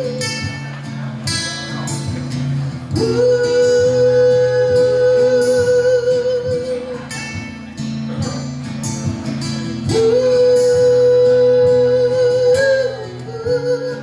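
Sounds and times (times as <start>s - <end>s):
band playing with guitar: 0.0s - 14.0s.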